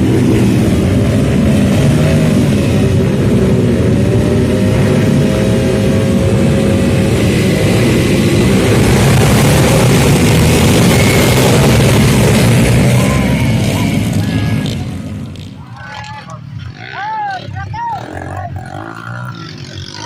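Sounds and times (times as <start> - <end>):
broad rushing noise: 0.0 - 20.0
dirt bike engines running: 0.0 - 20.0.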